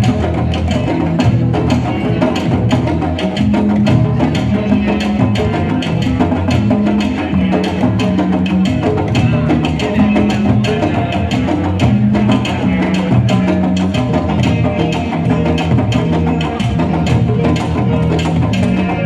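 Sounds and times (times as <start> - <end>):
bass line: 0.0 - 19.0
drum group playing: 0.0 - 19.0.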